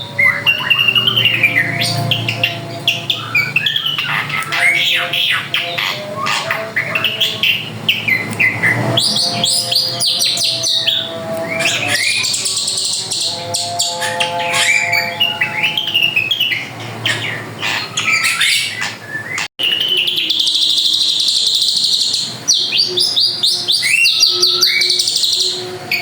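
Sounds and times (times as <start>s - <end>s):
bird singing chirps and whistles: 0.0s - 26.0s.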